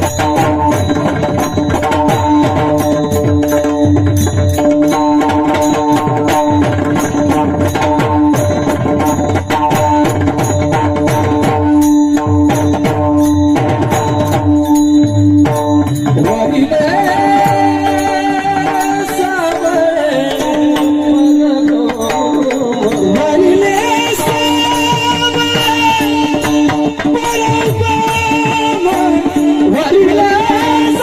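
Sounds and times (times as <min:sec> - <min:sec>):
fast drum and cymbal rhythm: 0:00.0 - 0:31.0.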